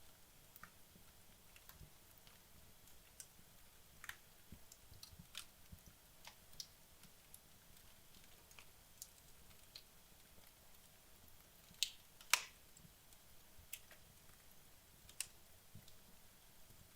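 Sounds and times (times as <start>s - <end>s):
low hiss: 0.0s - 16.9s
wood fire crackling: 0.0s - 16.9s.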